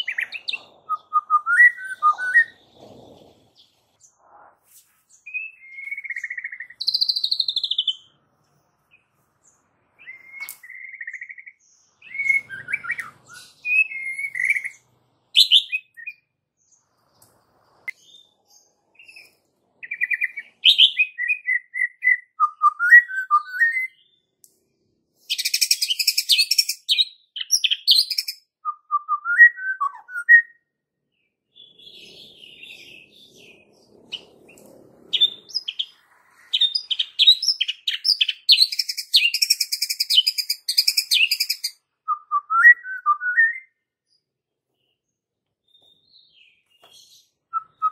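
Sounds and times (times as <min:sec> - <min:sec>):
bird singing whistled notes: 0:00.0 - 0:02.7, 0:05.2 - 0:08.1, 0:08.9 - 0:24.3, 0:25.2 - 0:44.2, 0:45.6 - 0:47.9.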